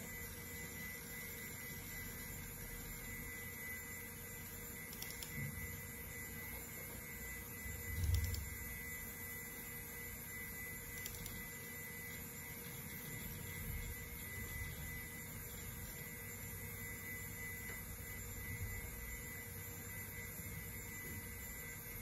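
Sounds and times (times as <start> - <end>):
computer fans and drives humming: 0.0 - 22.0.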